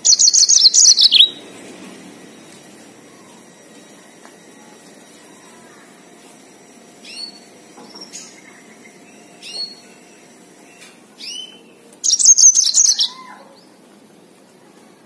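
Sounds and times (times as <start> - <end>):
canary chirps: 0.0 - 3.8, 4.6 - 13.8
canary trilled song: 0.0 - 13.8.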